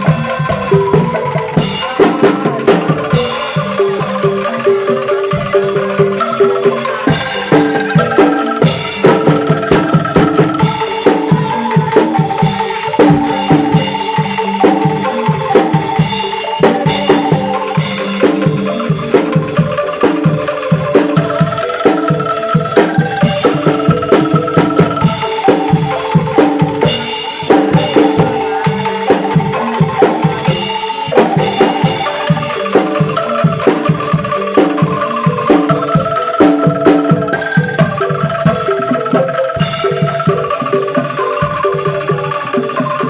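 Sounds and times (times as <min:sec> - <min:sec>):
bamboo angklung melody: 0:00.0 - 0:43.0
drum beat: 0:00.0 - 0:43.0.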